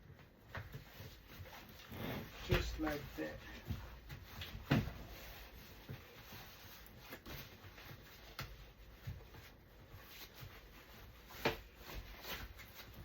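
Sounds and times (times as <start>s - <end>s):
plastic and fabric rubbing: 0.2s - 13.0s.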